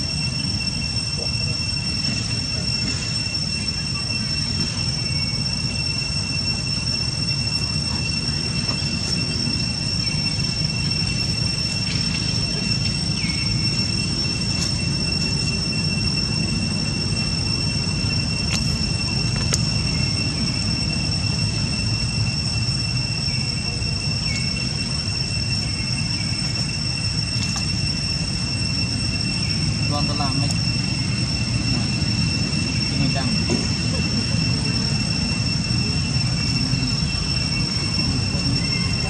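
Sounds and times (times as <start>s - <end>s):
high-pitched insect drone: 0.0s - 39.0s.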